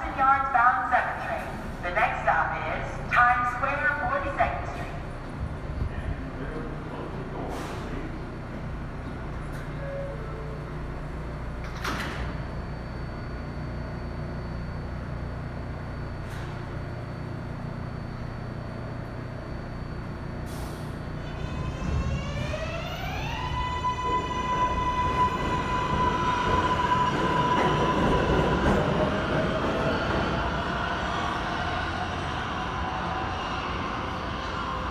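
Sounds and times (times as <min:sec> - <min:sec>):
subway train humming: 0:00.0 - 0:34.9.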